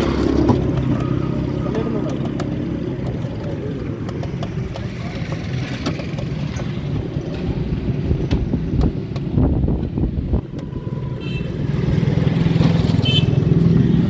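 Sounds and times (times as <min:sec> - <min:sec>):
motorcycles: 0:00.0 - 0:14.0
traffic rumble: 0:00.0 - 0:14.0.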